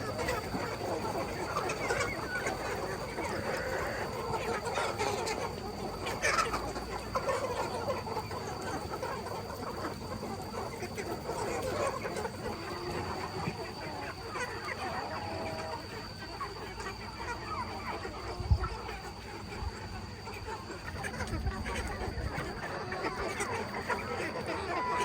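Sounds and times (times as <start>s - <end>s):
chickens clucking and calling: 0.0s - 25.0s.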